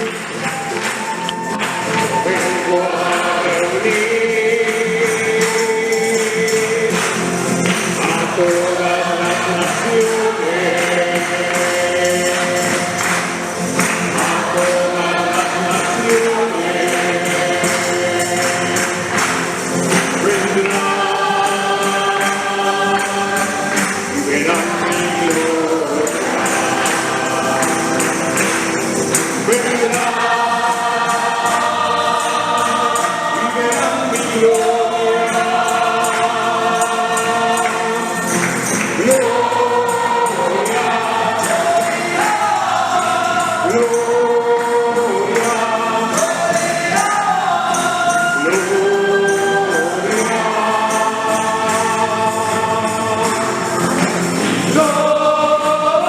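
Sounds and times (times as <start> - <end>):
choir singing a hymn: 0.0 - 56.0
jingling percussion: 0.0 - 56.0.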